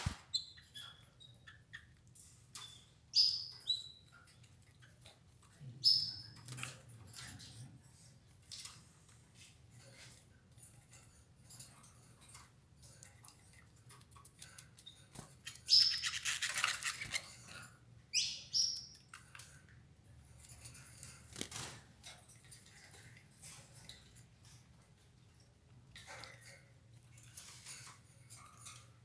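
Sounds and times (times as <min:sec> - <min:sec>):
canaries pecking: 0:00.0 - 0:29.0.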